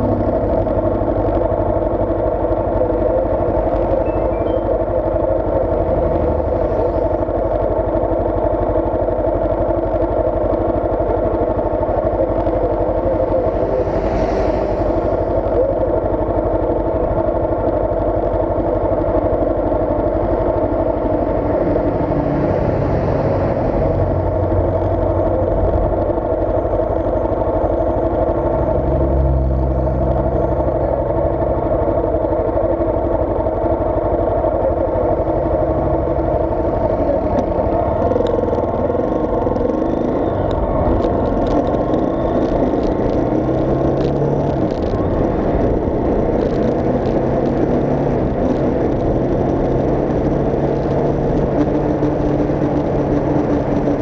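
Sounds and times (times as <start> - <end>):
heavy engine rumble: 0.0 - 54.0
vehicles driving past: 0.0 - 54.0.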